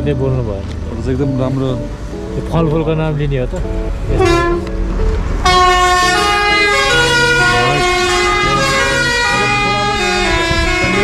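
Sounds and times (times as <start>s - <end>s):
sustained background music: 0.0s - 11.0s.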